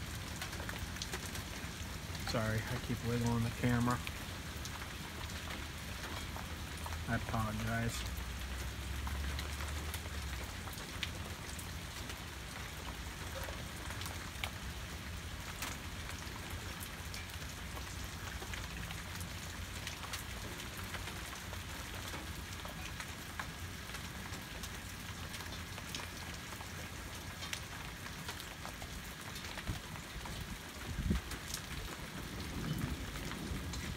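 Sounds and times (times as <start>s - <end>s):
sharp ticks of raindrops: 0.0s - 33.9s
steady rain falling: 0.0s - 33.9s.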